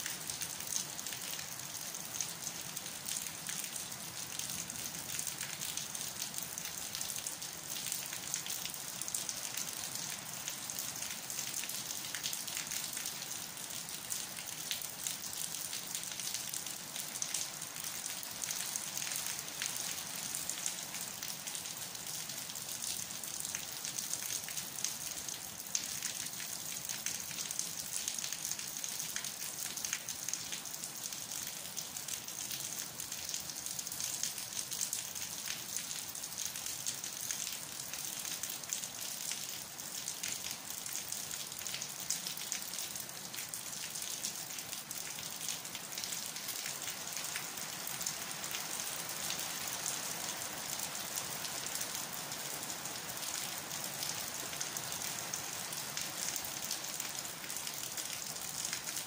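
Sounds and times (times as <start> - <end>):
rain on plants and wall: 0.0 - 59.0.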